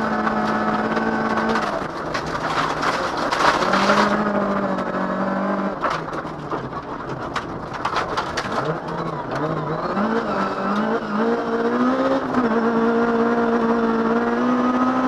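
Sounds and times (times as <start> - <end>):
gravel striking car body: 0.0 - 12.5
car engine under load: 0.0 - 15.0.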